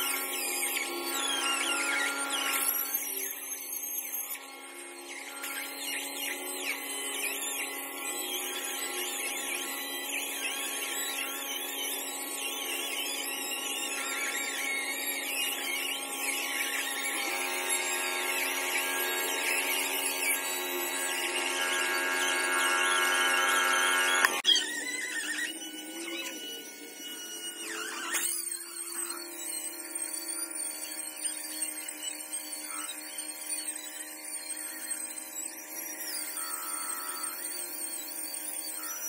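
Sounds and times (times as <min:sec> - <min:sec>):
stone polisher whining: 0:00.0 - 0:39.0.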